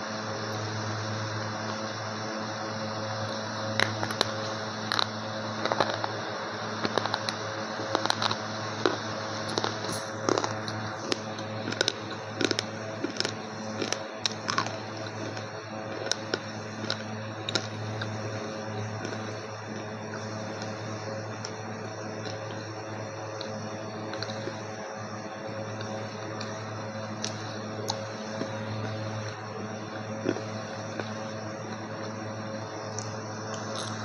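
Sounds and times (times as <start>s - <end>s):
steady low hum: 0.0s - 34.0s
pencil being chewed crunching: 3.8s - 22.6s, 23.3s - 24.6s, 25.7s - 32.2s, 32.9s - 34.0s.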